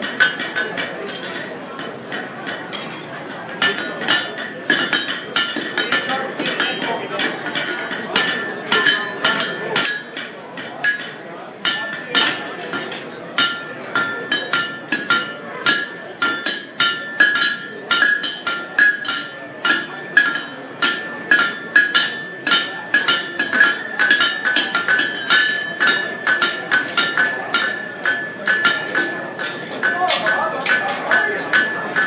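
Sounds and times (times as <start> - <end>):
hammer striking steel on anvil: 0.0 - 32.0.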